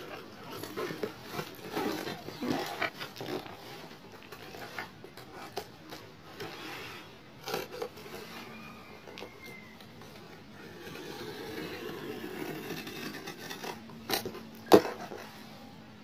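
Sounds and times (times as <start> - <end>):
hands rubbing cardboard box: 0.0 - 15.7.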